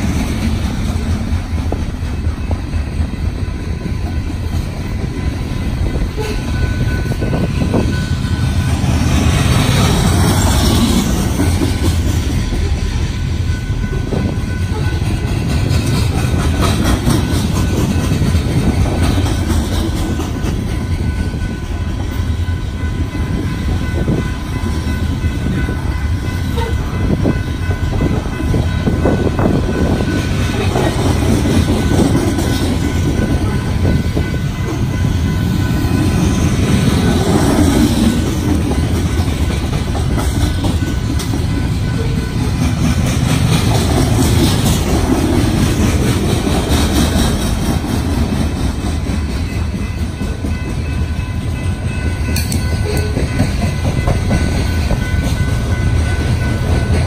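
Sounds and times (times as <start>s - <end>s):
freight train passing close: 0.0s - 57.0s.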